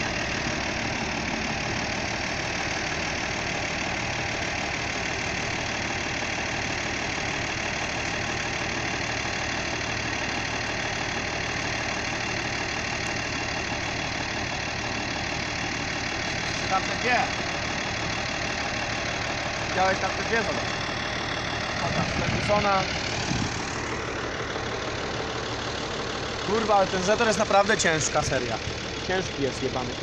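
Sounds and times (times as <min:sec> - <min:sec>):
tractor diesel engine idling: 0:00.0 - 0:30.0.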